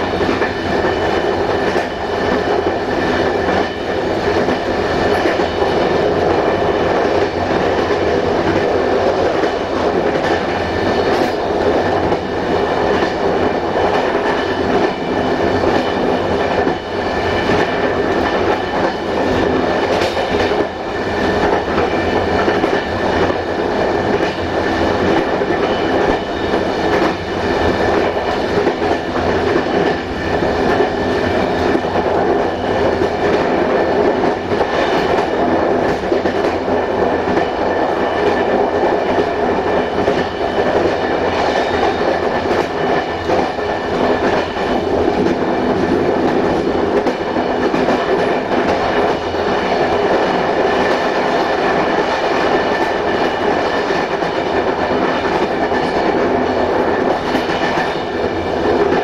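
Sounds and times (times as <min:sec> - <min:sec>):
train wheels rumbling on track: 0:00.0 - 0:59.0
wheels click-clacking on rail joints: 0:00.0 - 0:59.0.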